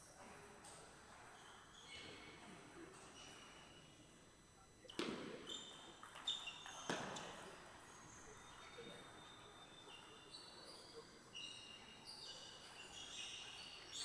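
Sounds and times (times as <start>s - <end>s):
faint high-pitched chirping tones: 0.0s - 14.0s.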